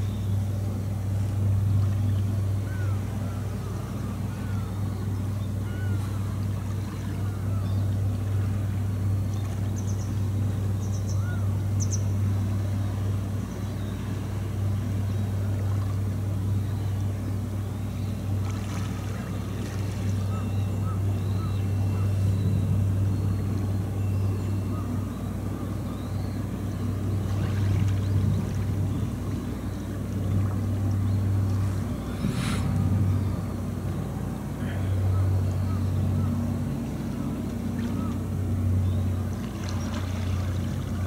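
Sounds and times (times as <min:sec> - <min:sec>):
low engine drone: 0:00.0 - 0:41.0.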